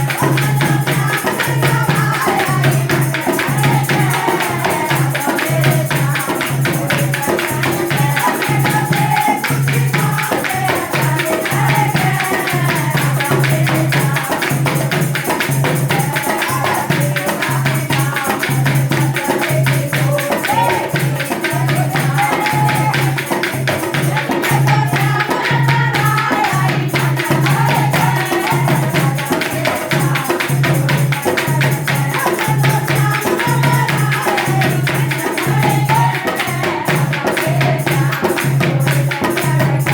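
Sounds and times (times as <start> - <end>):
percussion beat with jingles: 0.0 - 39.9
person singing folk song: 0.0 - 39.9.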